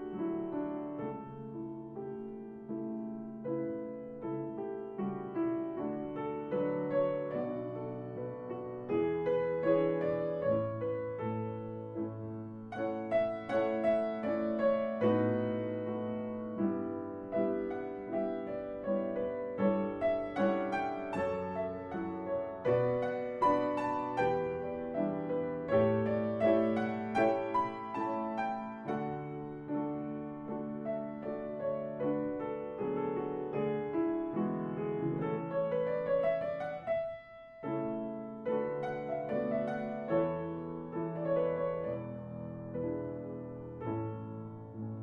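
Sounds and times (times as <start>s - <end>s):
gentle piano music: 0.0s - 45.0s.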